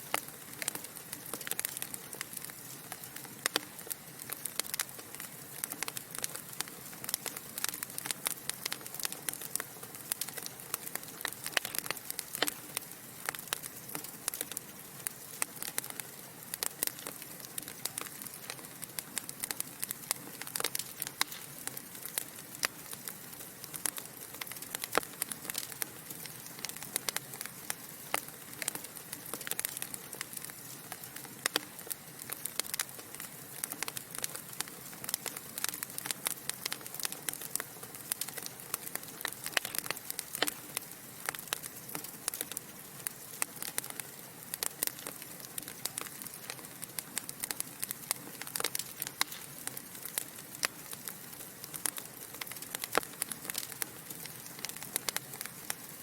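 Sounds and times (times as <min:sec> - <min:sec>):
pops and snaps of burning logs: 0:00.0 - 0:56.0
wood fire crackling: 0:00.0 - 0:56.0.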